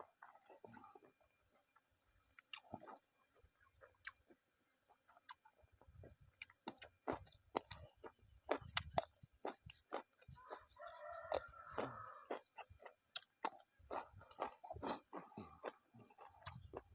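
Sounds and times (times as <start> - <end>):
person chewing: 2.2 - 16.9.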